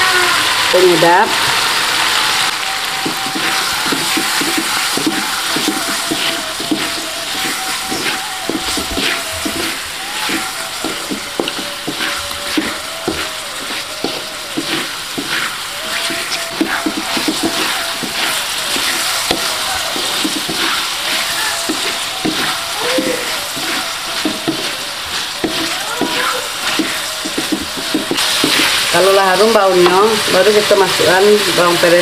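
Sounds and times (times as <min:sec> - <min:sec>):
food sizzling in a wok: 0:00.0 - 0:32.0
wooden spatula scraping a pan: 0:02.8 - 0:32.0.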